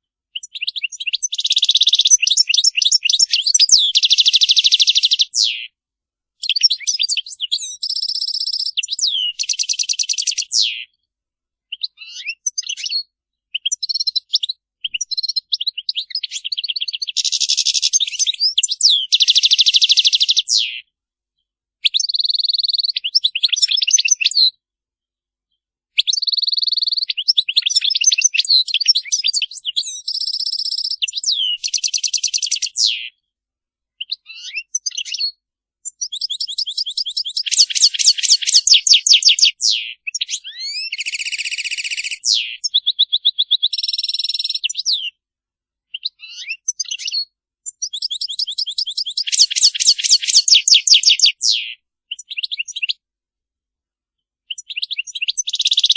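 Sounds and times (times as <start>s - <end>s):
goldfinch song: 0.0s - 5.8s, 6.4s - 24.6s, 25.5s - 33.3s, 33.9s - 45.2s, 45.8s - 53.1s, 54.4s - 55.9s.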